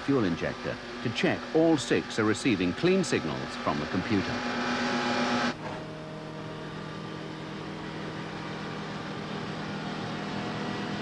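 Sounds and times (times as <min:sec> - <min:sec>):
racing engine running: 0:00.0 - 0:11.0.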